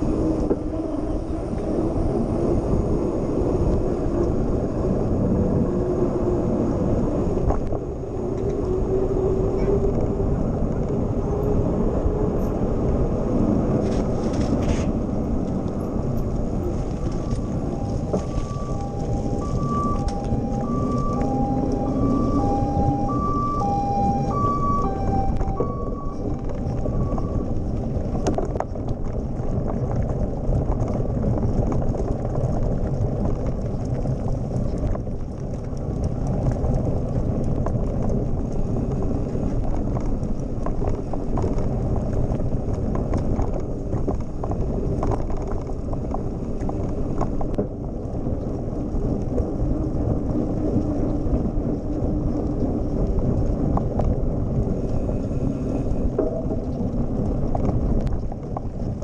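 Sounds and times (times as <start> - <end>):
bike rattling over bumps: 0.0 - 59.0
tyres rumbling on dirt and gravel: 0.0 - 59.0.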